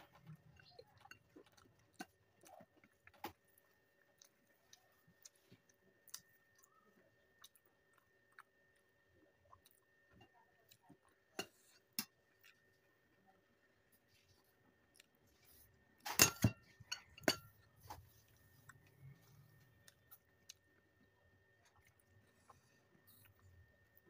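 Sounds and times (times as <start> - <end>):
person chewing softly: 0.0 - 24.0.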